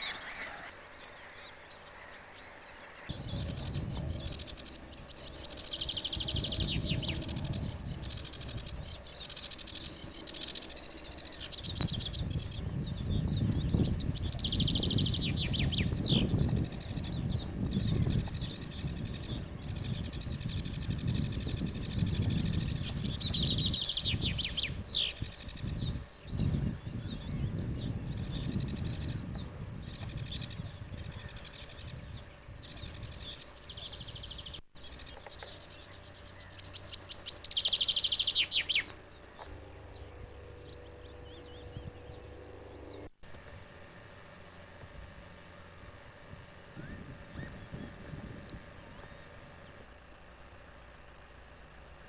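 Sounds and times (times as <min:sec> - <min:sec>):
low rumble: 0:00.0 - 0:31.2, 0:38.9 - 0:51.8
bird trill: 0:00.0 - 0:52.0
faint steady hum: 0:00.0 - 0:52.0
songbirds chirping: 0:00.0 - 0:52.0.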